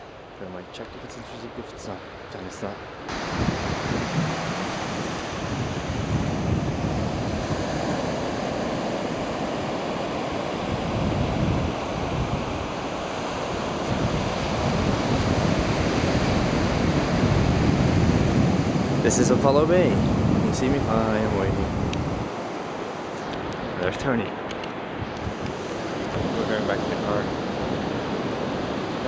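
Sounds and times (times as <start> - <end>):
waves washing onto beach: 0.0 - 29.0
wind buffeting microphone: 3.1 - 29.0.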